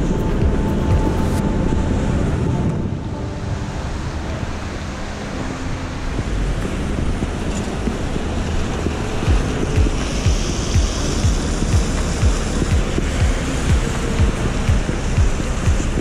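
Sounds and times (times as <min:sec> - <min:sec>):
rain: 0:00.0 - 0:16.0
traffic on a wet road: 0:00.0 - 0:16.0
wind on the microphone: 0:00.0 - 0:16.0.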